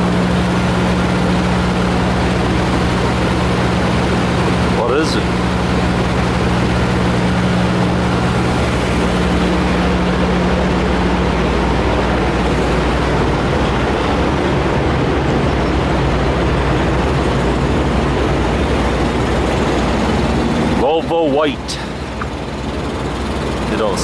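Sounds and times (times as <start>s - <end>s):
truck diesel engines idling: 0.0s - 24.0s.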